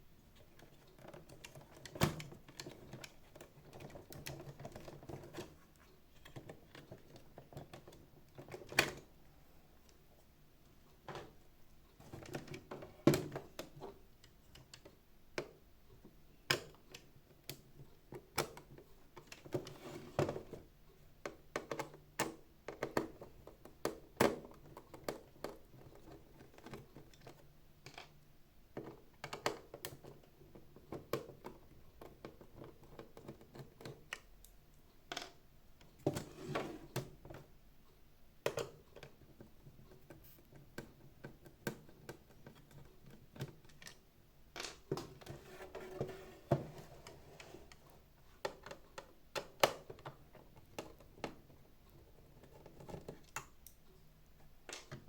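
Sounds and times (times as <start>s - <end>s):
plastic parts clicking and knocking: 0.4s - 9.1s, 12.0s - 34.3s, 35.1s - 37.5s, 38.4s - 55.0s.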